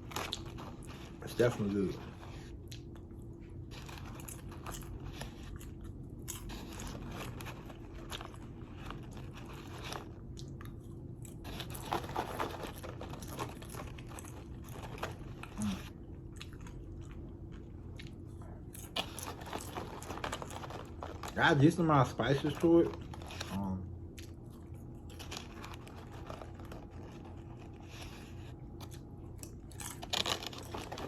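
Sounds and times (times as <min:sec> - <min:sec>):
person chewing crunchy popcorn: 0:00.0 - 0:31.0.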